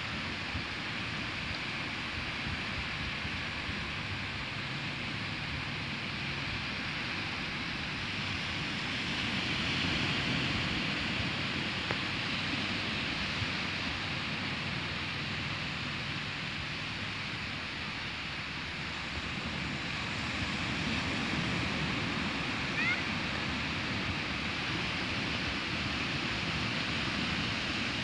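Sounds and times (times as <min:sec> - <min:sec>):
waves breaking on a sandy beach: 0:00.0 - 0:28.0.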